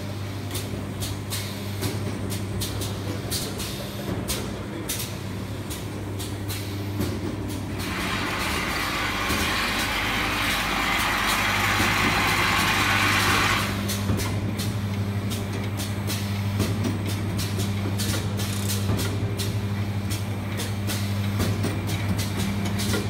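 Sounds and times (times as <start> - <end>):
machinery low hum: 0.0 - 23.0.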